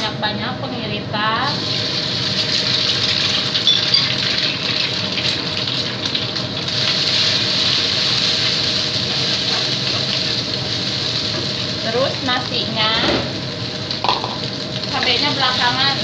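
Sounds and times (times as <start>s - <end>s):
egg sizzling in hot oil: 1.5s - 16.0s.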